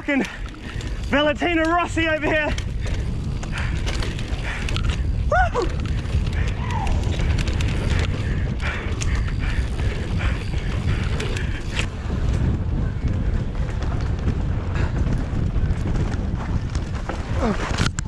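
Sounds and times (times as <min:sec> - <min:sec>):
bike clicks and rattles: 0:00.0 - 0:18.0
wind buffeting microphone: 0:00.0 - 0:18.0.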